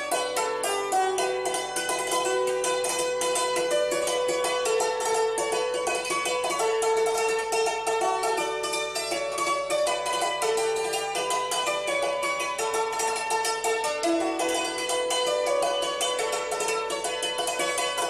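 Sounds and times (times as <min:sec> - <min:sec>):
string instrument melody: 0:00.0 - 0:18.0.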